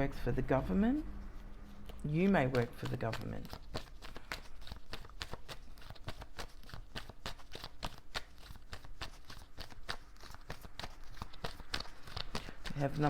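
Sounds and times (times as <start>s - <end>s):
cards clicking and flicking: 2.0s - 13.0s.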